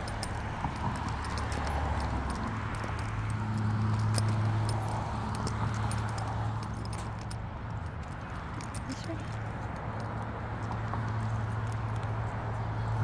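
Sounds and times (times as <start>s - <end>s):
light metallic jingling: 0.0s - 12.1s.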